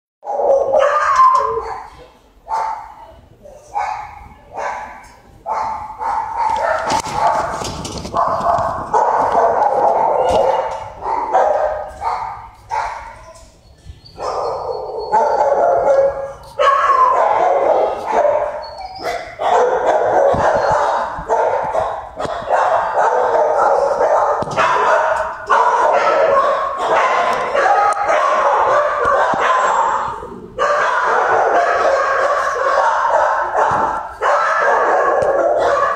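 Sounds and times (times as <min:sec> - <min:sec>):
dogs barking and yipping: 0:00.2 - 0:03.0, 0:03.6 - 0:35.9.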